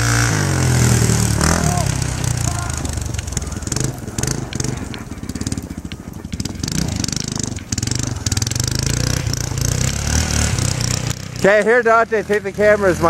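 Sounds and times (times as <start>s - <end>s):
small atv engine running: 0.0s - 13.0s.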